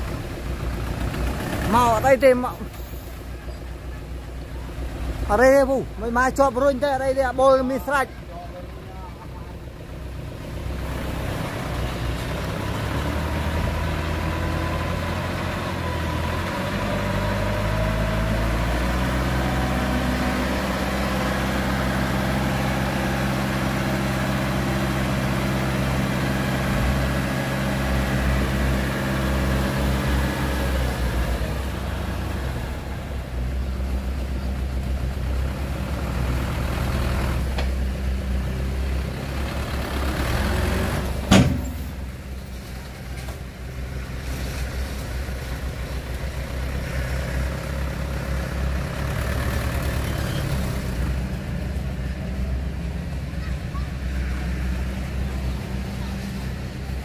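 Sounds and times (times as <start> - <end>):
dump truck diesel engine: 0.0 - 57.0.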